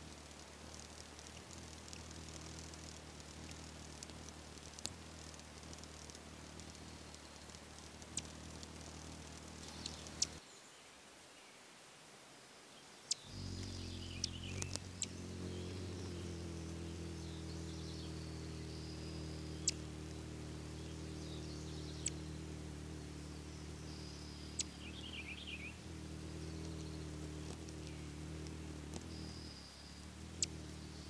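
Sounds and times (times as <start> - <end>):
hummingbird chip notes: 0.0 - 10.4, 13.2 - 31.0
soft high twittering: 0.0 - 10.4, 13.1 - 31.0
steady low hum: 0.0 - 10.4, 13.3 - 31.0.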